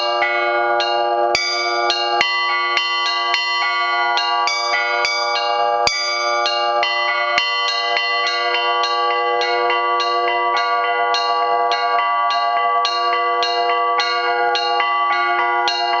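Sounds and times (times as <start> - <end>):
deeper bell: 0.0 - 16.0
small church bells ringing: 0.0 - 16.0.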